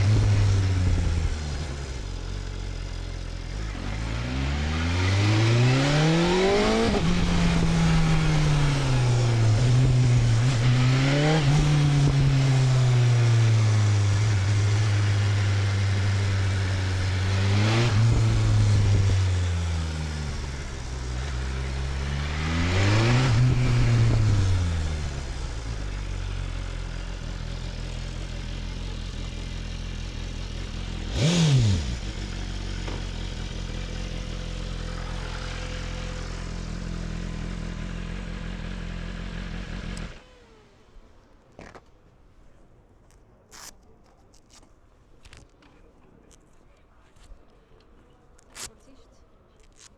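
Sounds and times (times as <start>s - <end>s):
motorcycle engine revving: 0.0s - 41.8s.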